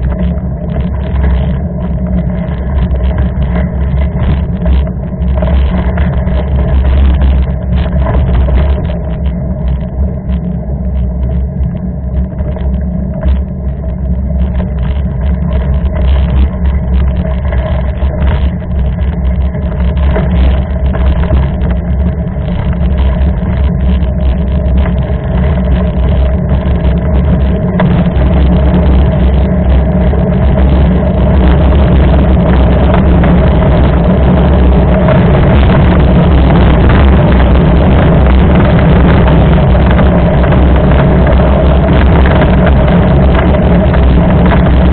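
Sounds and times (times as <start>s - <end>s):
bike knocks and rattles: 0.0s - 44.9s
wind and tyre rumble: 0.0s - 44.9s.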